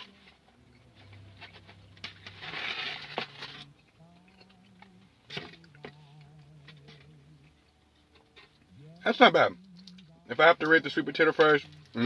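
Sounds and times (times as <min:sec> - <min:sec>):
faint christmas music: 0:00.0 - 0:12.0.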